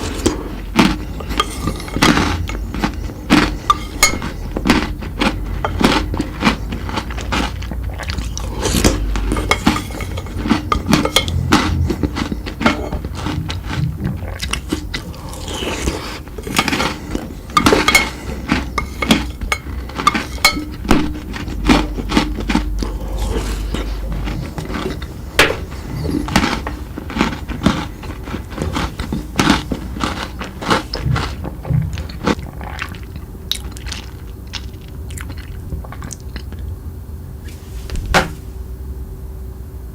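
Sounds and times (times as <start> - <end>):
crunching bites and chewing: 0.0 - 36.7
steady low hum: 0.0 - 39.9.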